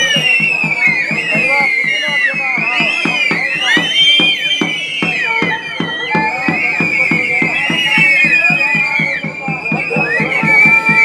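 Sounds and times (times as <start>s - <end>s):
drums beating fast: 0.0s - 11.0s.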